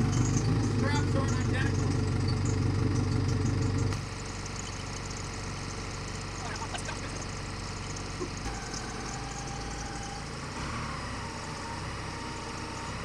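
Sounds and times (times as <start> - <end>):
telehandler engine running: 0.0 - 13.0
thin whine: 0.0 - 13.0.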